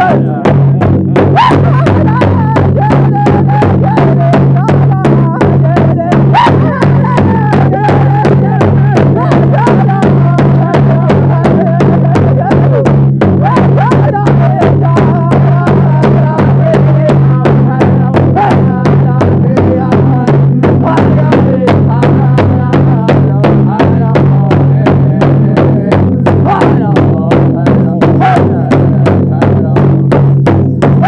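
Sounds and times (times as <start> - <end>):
voices singing: 0.0 - 30.0
big drum beating in unison: 0.0 - 31.0.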